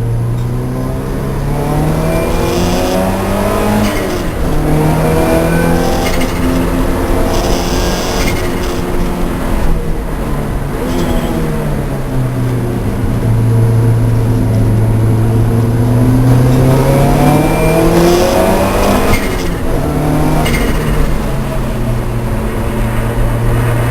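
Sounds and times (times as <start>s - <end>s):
race car engine accelerating: 0.0s - 23.9s.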